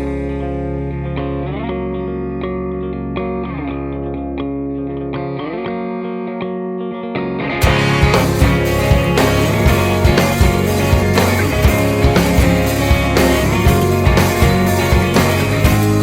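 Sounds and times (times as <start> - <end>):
solo electric guitar picking: 0.0 - 16.0.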